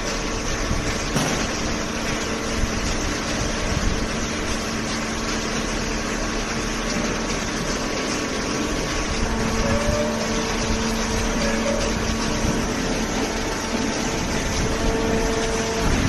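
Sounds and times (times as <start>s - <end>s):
motor and hydraulic pump humming: 0.0s - 16.0s.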